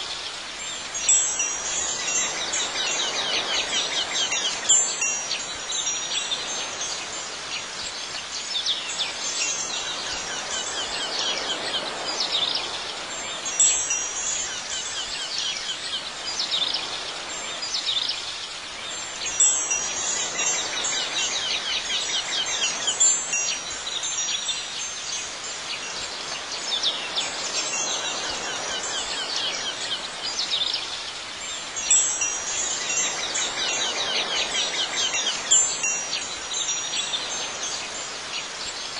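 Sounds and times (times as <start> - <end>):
soft hiss: 0.0 - 38.9
chimes tinkling: 0.6 - 18.0, 18.8 - 38.9.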